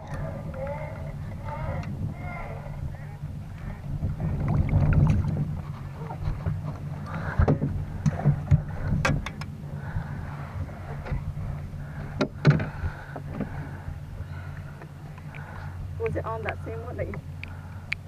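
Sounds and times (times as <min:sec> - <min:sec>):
boat engine low rumble: 0:00.0 - 0:18.0
knocks and clicks in boat: 0:00.0 - 0:18.0.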